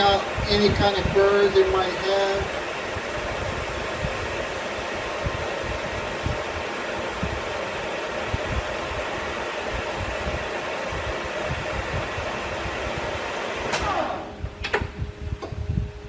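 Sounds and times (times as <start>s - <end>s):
metal lathe running: 0.0s - 14.2s.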